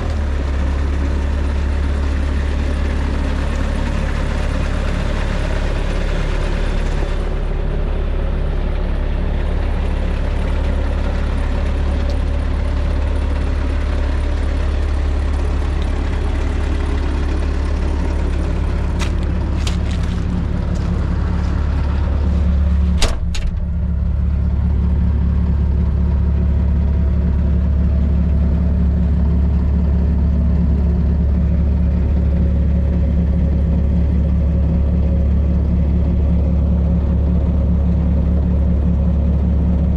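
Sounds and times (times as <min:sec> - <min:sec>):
skid steer diesel engine running: 0:00.0 - 0:39.9.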